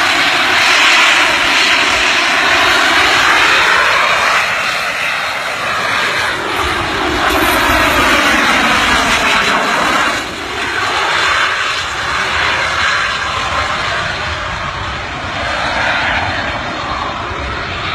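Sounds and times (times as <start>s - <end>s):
aircraft engine roaring: 0.0s - 17.9s.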